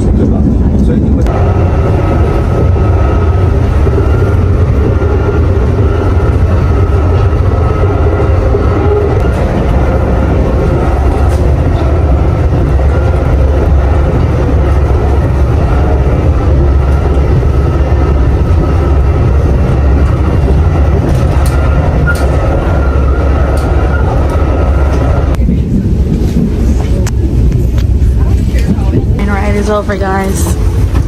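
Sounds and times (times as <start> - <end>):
train rumbling from inside: 0.0 - 31.0.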